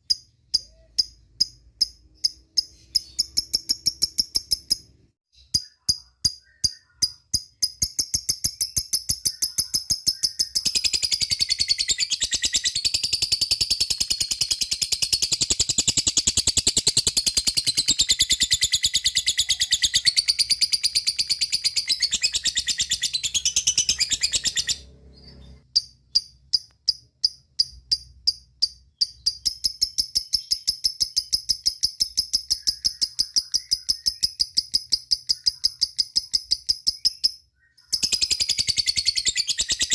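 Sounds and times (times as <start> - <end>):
bird chattering trill: 0.0 - 26.7, 27.3 - 39.9.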